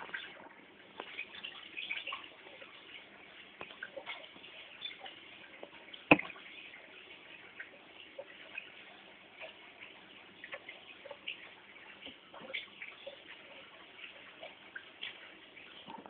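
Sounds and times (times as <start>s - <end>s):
water plips: 0.0s - 16.0s.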